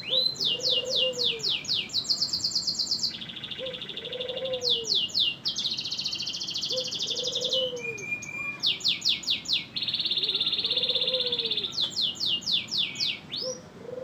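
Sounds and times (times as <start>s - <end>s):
canary singing trills: 0.0s - 13.7s.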